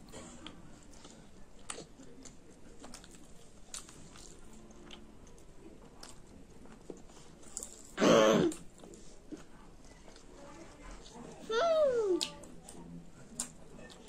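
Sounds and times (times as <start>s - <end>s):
close chewing: 0.0s - 11.5s, 12.1s - 14.0s.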